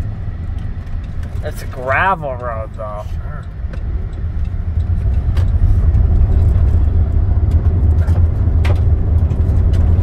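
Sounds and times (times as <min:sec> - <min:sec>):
car road rumble on gravel: 0:00.0 - 0:10.0
gravel ticks: 0:00.3 - 0:10.0.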